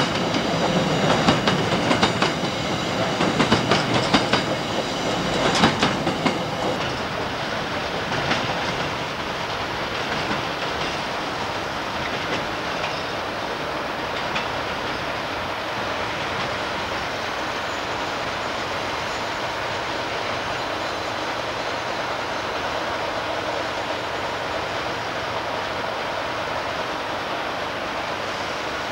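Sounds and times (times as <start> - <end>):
train wheels rolling on rail: 0.0 - 28.9.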